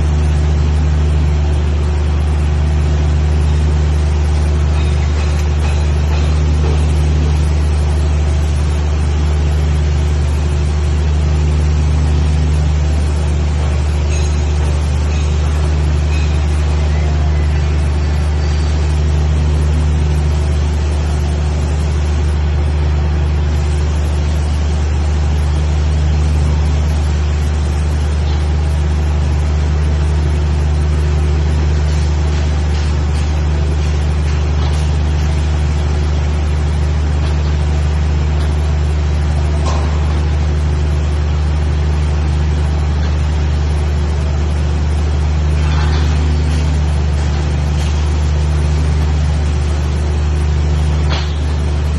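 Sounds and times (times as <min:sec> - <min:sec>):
machinery humming: 0:00.0 - 0:51.9.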